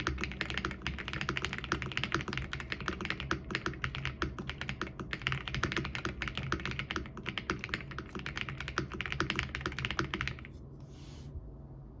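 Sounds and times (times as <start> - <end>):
mechanical keyboard typing: 0.0 - 10.5.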